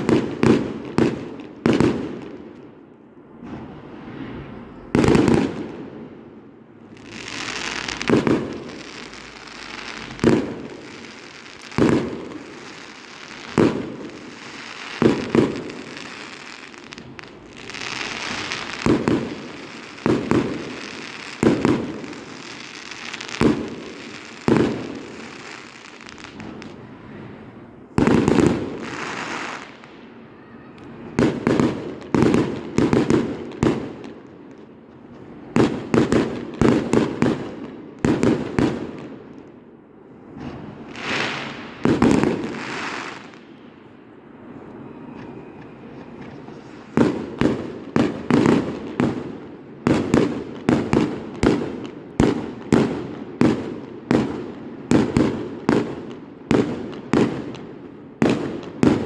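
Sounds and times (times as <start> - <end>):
fireworks banging: 0.0 - 59.0
fireworks crackling: 0.0 - 59.0.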